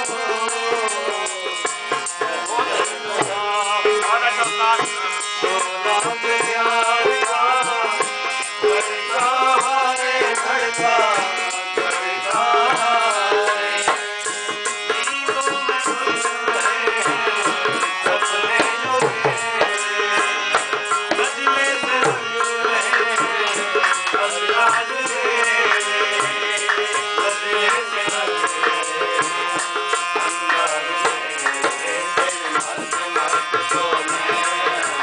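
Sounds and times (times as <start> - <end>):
harmonium: 0.0 - 35.0
man singing wavering line: 0.0 - 35.0
tabla fast rhythm: 0.0 - 35.0.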